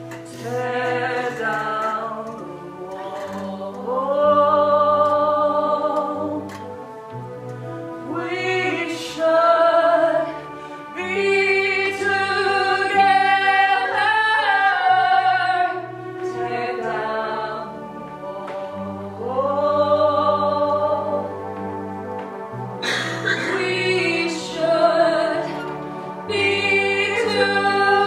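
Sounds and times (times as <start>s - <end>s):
choir singing: 0.2s - 28.0s.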